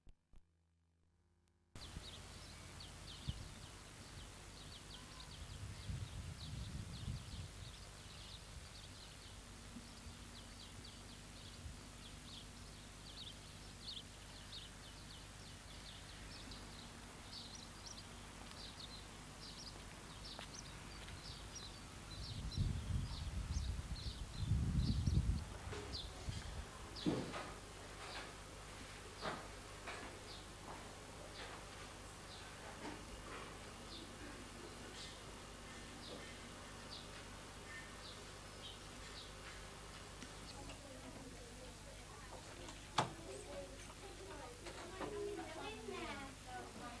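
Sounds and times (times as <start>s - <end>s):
small birds chirping: 1.8s - 47.0s.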